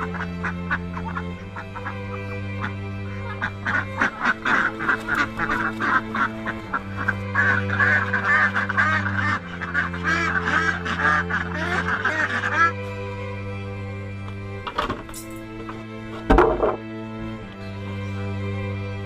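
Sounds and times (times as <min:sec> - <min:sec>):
background music with held chords: 0:00.0 - 0:19.0
ducks quacking: 0:00.0 - 0:19.0.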